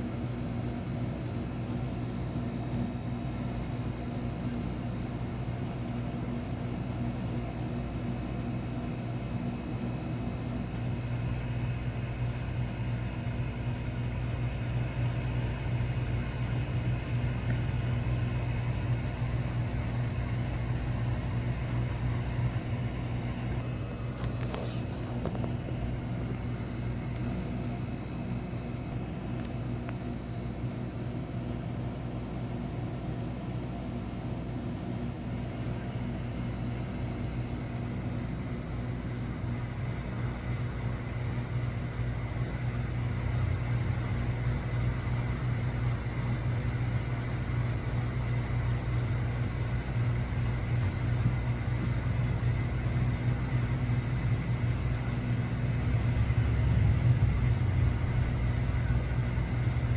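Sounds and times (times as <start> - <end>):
faint hum: 0.0 - 59.9
low mechanical rumble: 0.0 - 59.9.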